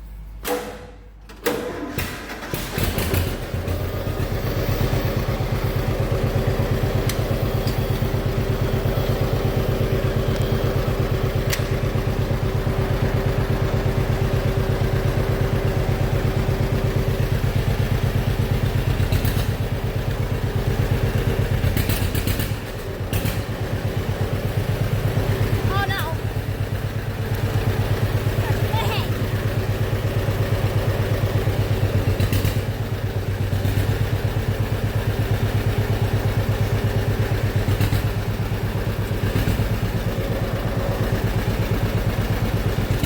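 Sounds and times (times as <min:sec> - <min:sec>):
tractor engine idling: 0:01.8 - 0:43.0.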